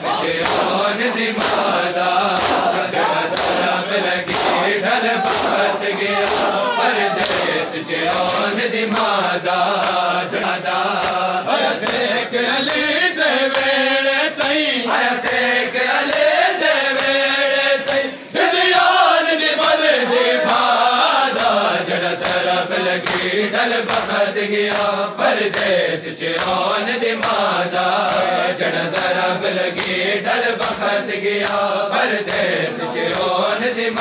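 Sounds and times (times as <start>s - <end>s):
men chanting a lament: 0.0s - 34.0s.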